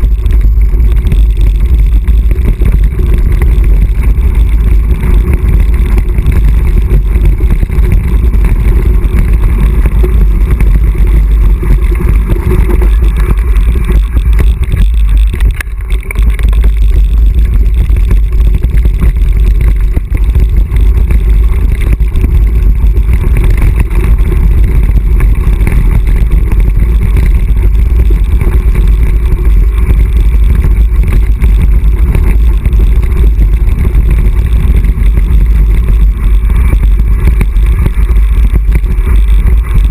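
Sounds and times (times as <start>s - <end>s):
bike rattling on gravel: 0.0s - 39.9s
wind rumble on microphone: 0.0s - 39.9s.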